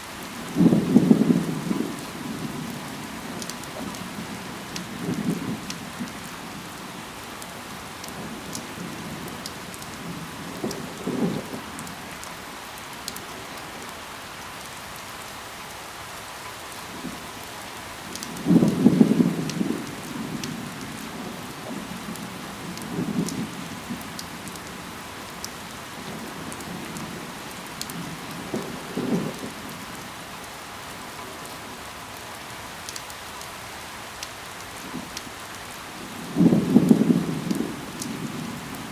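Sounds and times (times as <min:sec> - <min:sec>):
rain falling on leaves: 0:00.0 - 0:38.9
rain drop ticks: 0:00.5 - 0:14.8, 0:16.4 - 0:38.9.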